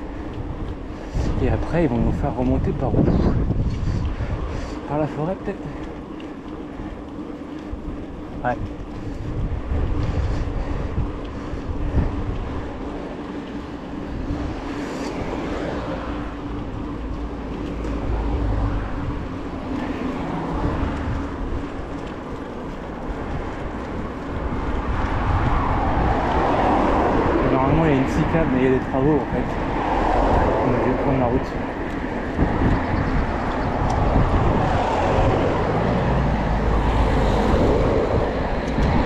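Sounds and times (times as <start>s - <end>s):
cars passing: 0.0s - 39.0s
wind rumbling on microphone: 0.0s - 39.0s.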